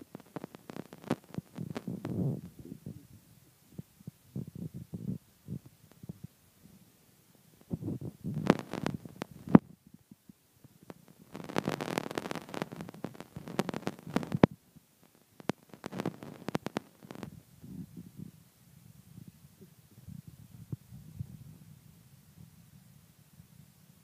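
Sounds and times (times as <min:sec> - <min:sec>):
microphone handling noise: 0:00.0 - 0:06.8, 0:07.5 - 0:21.8.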